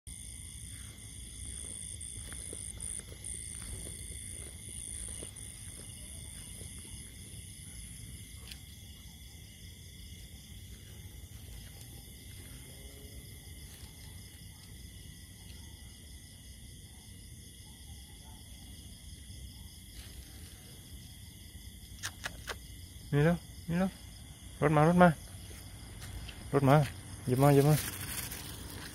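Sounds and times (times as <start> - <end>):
crickets trilling: 0.1 - 28.9.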